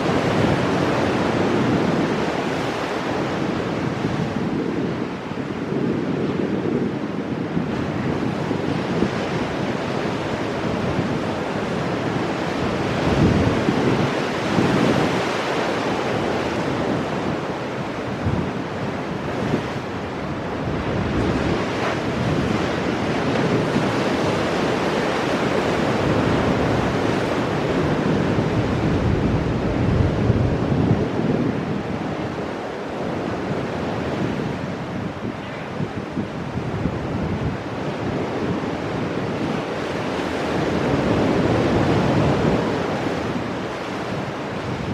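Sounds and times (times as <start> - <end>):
ocean surf breaking over rocks: 0.0 - 44.9
wind buffeting microphone: 0.0 - 44.9.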